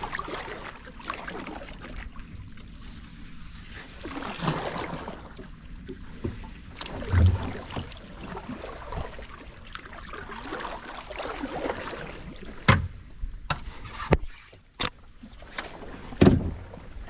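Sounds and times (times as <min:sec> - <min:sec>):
paddle swishing water: 0:00.0 - 0:17.0.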